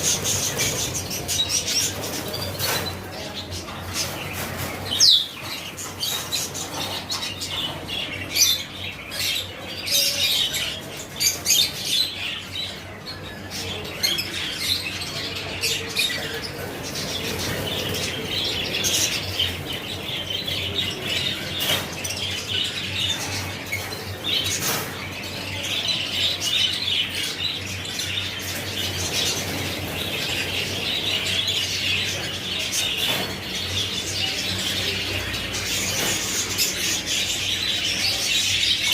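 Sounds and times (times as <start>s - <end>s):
lovebirds chattering and squawking: 0.0s - 38.9s.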